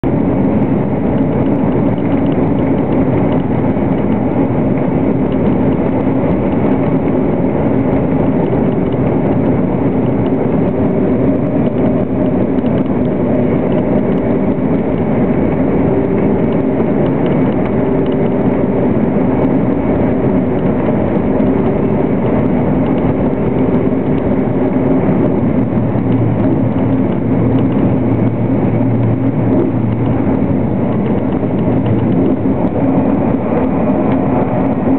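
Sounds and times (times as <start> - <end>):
deep hum: 0.0 - 34.9
train cabin rumble and rush: 0.0 - 34.9.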